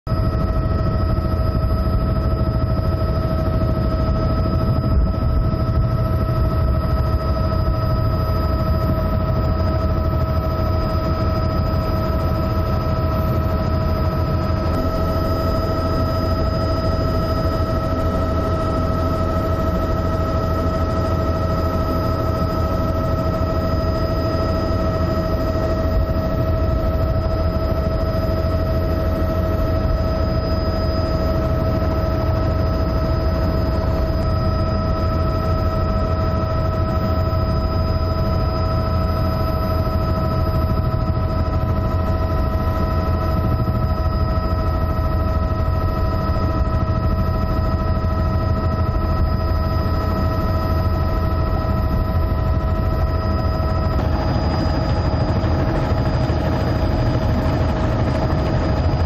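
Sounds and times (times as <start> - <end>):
aircraft engine rumble and whine: 0.1 - 59.0.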